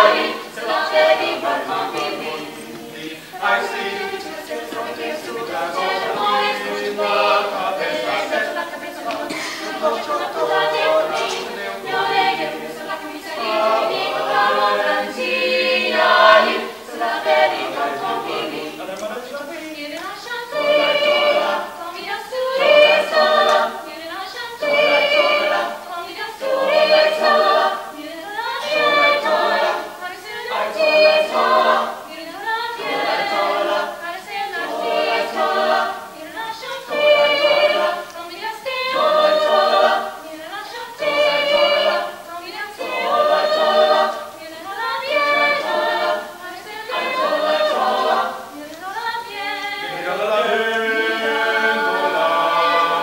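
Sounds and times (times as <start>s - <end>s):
mixed choir singing a cappella: 0.0s - 53.0s.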